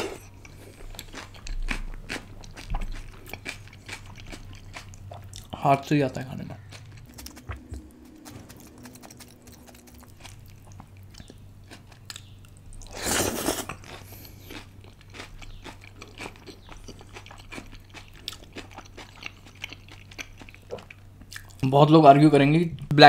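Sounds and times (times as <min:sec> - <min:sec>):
wet chewing: 0:00.0 - 0:05.6, 0:06.2 - 0:21.6.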